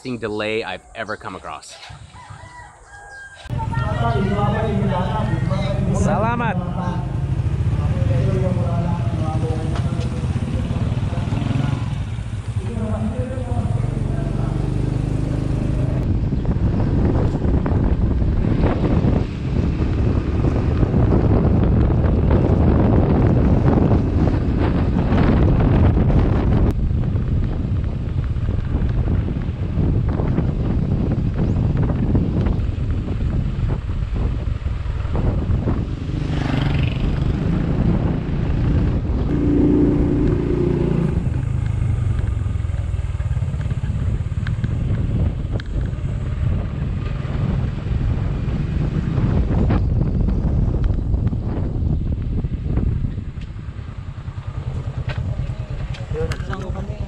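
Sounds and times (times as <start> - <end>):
wind buffeting microphone: 0.2 - 57.0
motorcycle engine running: 3.5 - 57.0.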